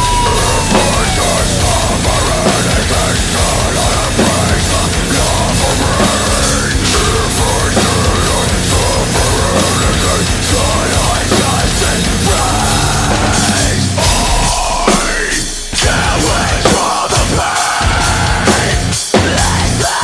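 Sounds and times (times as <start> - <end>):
distorted metal band: 0.0 - 20.0
drum kit driving beat: 0.0 - 20.0.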